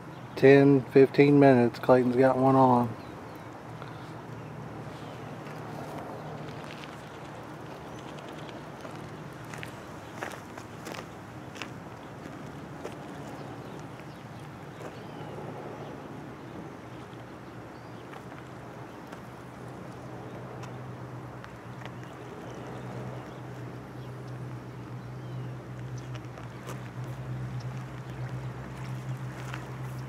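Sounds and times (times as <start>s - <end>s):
outdoor background hiss: 0.0s - 30.0s
steady low hum: 0.0s - 30.0s.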